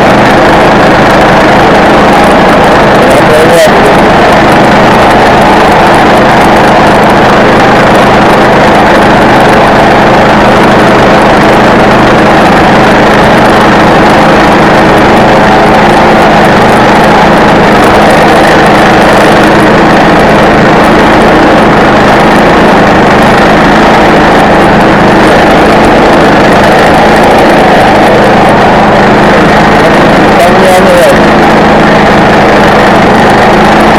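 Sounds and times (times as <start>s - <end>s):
log-milling saw engine running: 0.0s - 33.9s.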